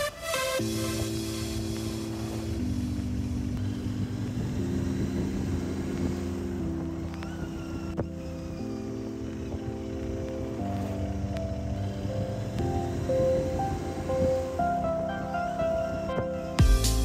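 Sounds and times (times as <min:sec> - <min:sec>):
held synth chords: 0:00.0 - 0:17.0
steady rushing noise: 0:00.0 - 0:17.0.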